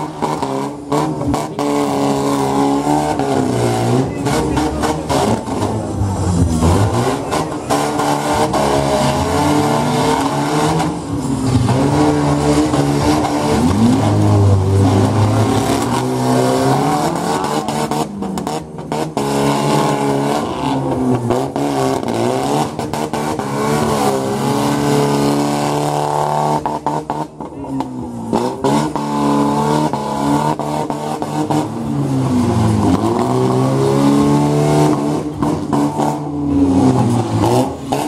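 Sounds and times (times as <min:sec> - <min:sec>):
car engines revving hard: 0:00.0 - 0:38.0
cars ramming each other: 0:00.0 - 0:38.0.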